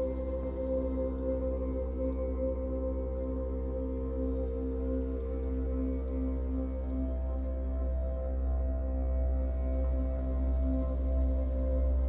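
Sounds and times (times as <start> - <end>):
ambient meditation music: 0.0 - 12.0.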